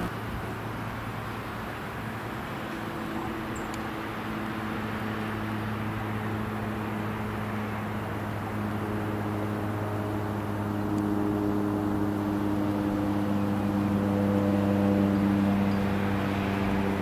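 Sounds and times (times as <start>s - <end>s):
propeller plane droning overhead: 0.0s - 17.0s.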